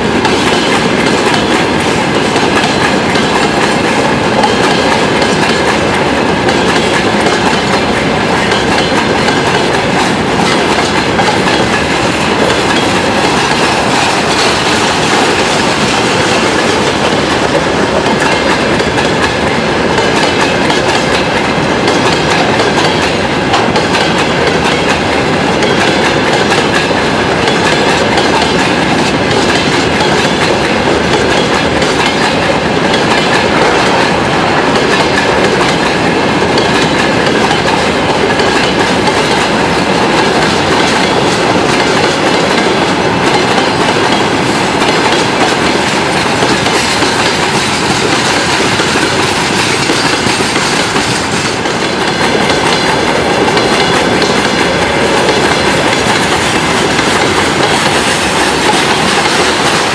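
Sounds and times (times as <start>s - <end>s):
clickety-clack over rail joints: 0.0s - 59.9s
freight train rumbling past: 0.0s - 59.9s.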